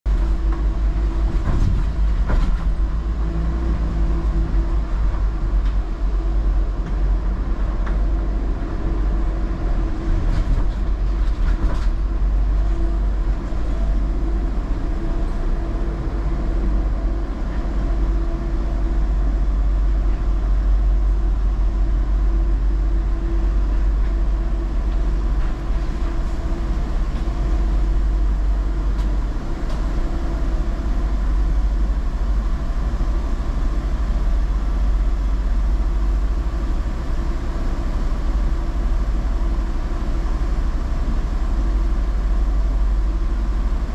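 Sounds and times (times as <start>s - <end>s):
car rolling with low rumble: 0.1s - 43.9s.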